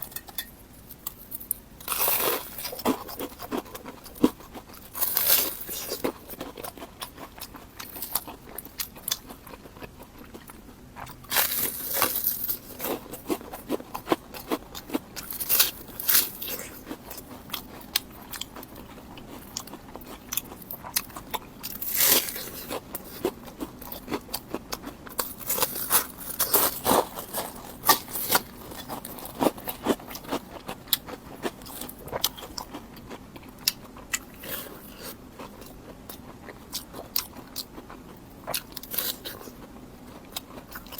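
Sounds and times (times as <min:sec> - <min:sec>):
crunchy bread being chewed: 0:00.0 - 0:40.9.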